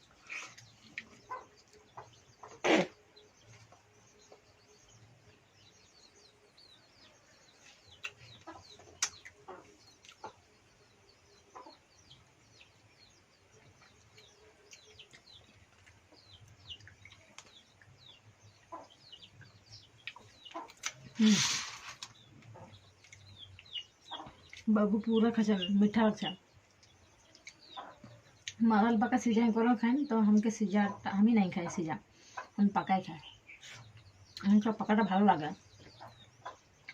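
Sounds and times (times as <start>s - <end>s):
chickens clucking: 0.0s - 4.5s, 7.0s - 36.9s
small birds chirping: 0.0s - 36.9s.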